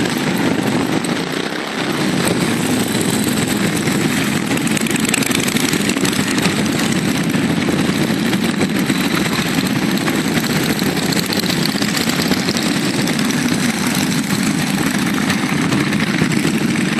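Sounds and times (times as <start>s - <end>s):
many motorcycle engines rumbling: 0.0s - 16.9s.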